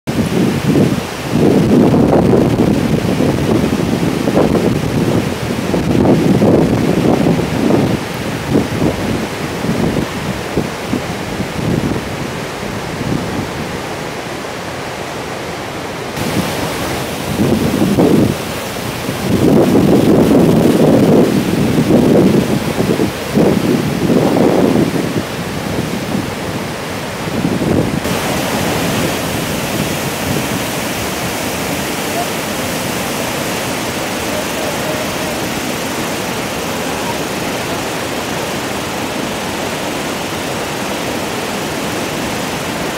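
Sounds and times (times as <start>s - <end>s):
waterfall rushing: 0.0s - 42.9s
wind buffeting microphone: 0.1s - 14.2s, 16.2s - 42.9s.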